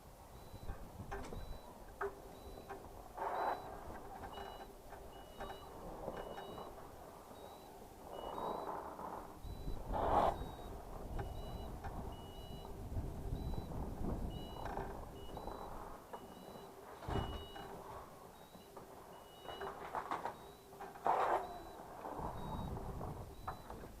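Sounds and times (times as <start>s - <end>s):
reversing beeper: 0.3s - 8.8s, 9.4s - 23.8s.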